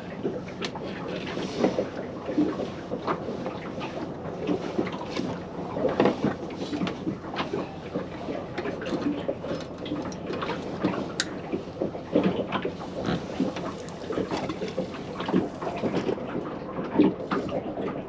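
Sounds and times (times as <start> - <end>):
water slapping boat hull: 0.0 - 18.0.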